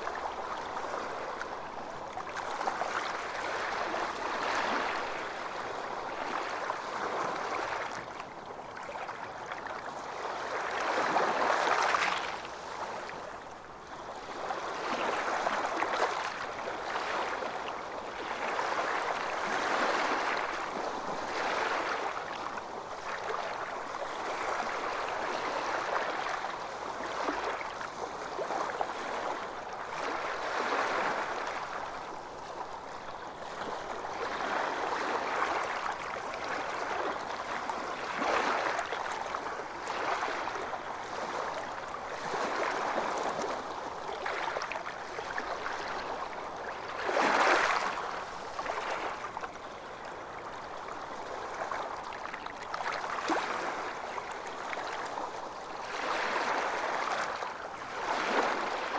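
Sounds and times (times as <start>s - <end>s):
small waves lapping: 0.0s - 58.9s.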